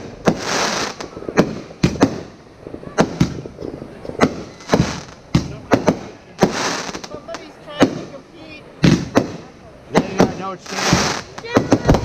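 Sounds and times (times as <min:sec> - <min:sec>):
firework hissing: 0:00.0 - 0:12.0
fireworks bangs: 0:00.0 - 0:12.0.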